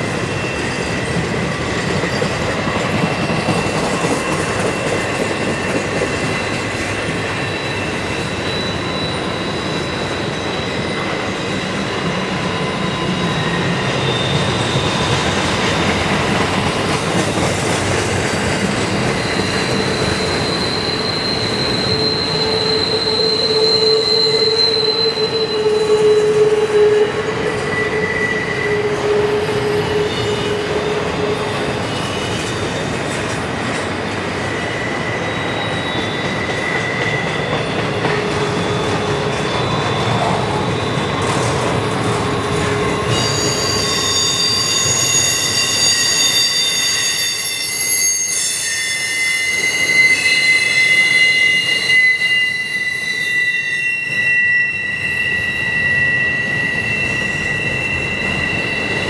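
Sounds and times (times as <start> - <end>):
wheel squeals: 0.0 - 59.0.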